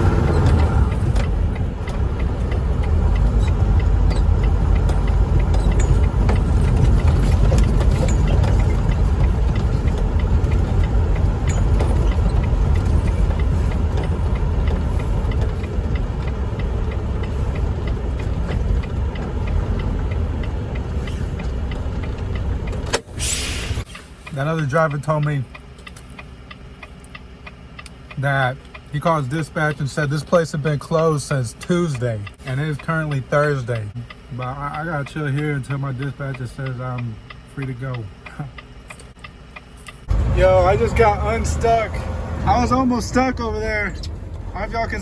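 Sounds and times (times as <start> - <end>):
truck diesel engine rumble: 0.0 - 45.0.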